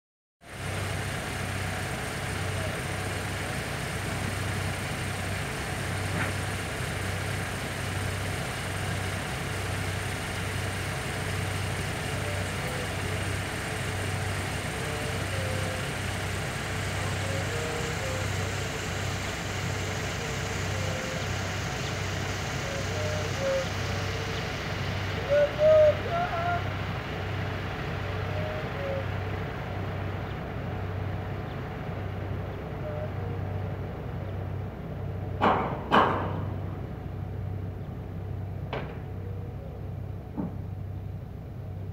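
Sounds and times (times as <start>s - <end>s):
diesel engine droning: 0.4s - 41.9s.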